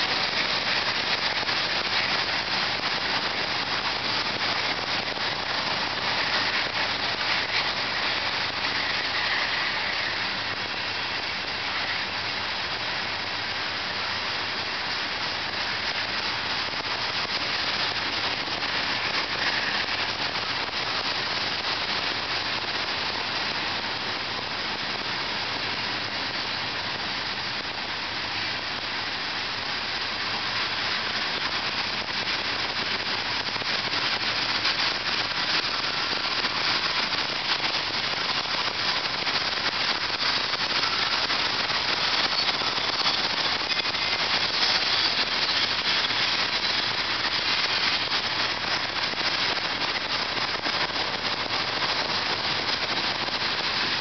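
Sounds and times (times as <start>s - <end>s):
train wheels rattling on rails: 0.0s - 54.0s.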